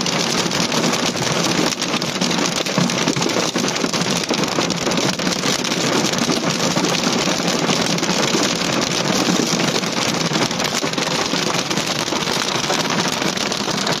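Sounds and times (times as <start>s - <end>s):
heavy rain on a car roof: 0.0s - 14.0s.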